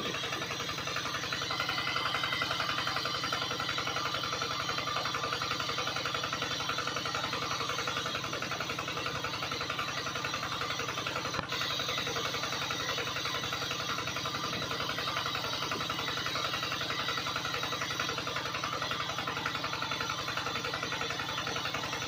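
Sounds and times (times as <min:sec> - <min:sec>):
small water pump motor chugging: 0:00.0 - 0:22.0.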